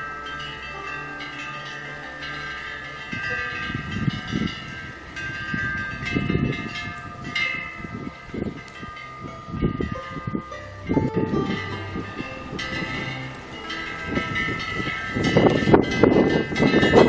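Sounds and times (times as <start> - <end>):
small metal wind bell ringing: 0.0 - 17.0
wind rumbling on microphone: 0.0 - 17.0.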